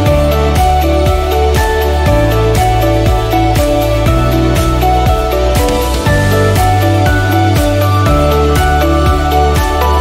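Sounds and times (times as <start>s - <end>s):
instrumental music with drum beat: 0.0s - 10.0s.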